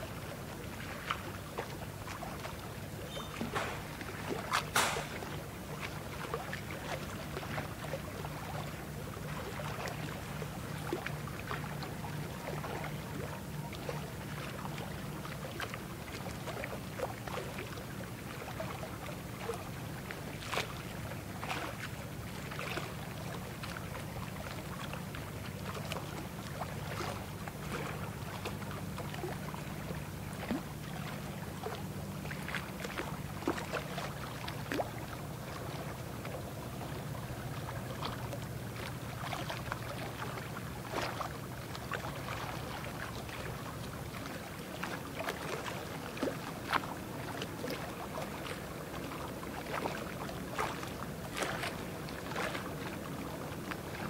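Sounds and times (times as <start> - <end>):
water splashing and lapping: 0.0 - 54.0.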